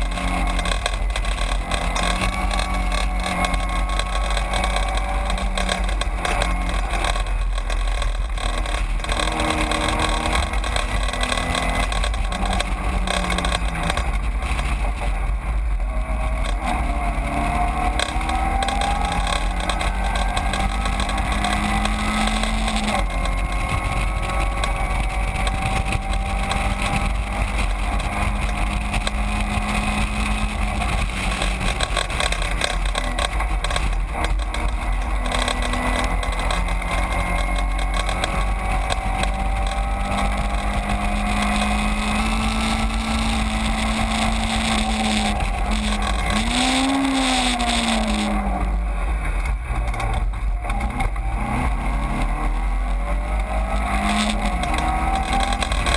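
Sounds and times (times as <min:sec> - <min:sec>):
race car engine through gears: 0:00.0 - 0:55.9
wind and road noise: 0:00.0 - 0:55.9.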